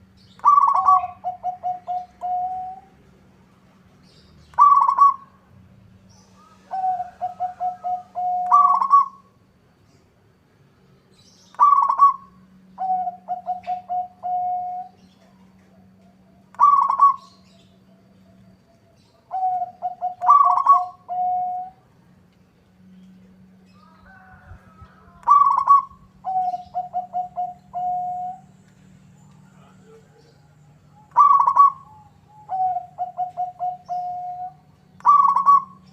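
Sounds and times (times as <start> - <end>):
dove cooing song: 0.0 - 3.2, 4.0 - 5.4, 6.2 - 9.4, 11.4 - 22.0, 23.0 - 35.9.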